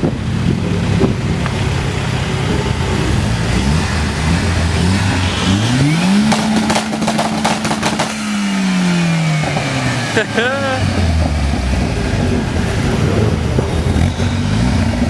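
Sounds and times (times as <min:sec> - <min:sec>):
car engine revving: 0:00.0 - 0:15.0
exhaust bangs: 0:00.0 - 0:15.0.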